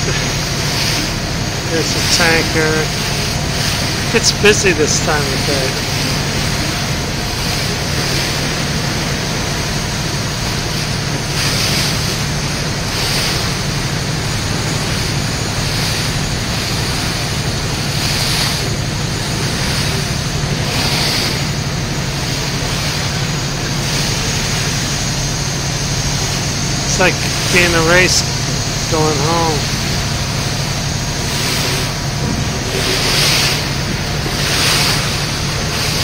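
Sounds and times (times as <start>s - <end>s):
ferry engine hum: 0.0s - 36.0s
water rushing past boat: 0.0s - 36.0s.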